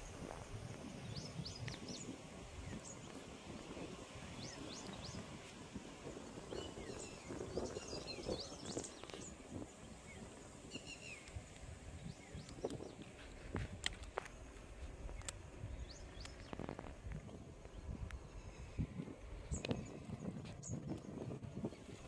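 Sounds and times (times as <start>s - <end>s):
outdoor background noise: 0.0s - 22.0s
small birds chirping: 0.0s - 22.0s.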